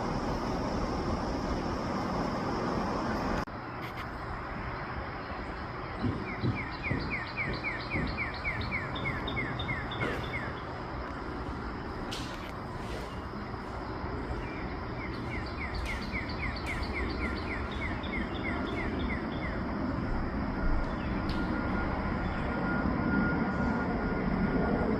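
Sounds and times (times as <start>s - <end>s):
low rumble of distant traffic: 0.0s - 24.9s.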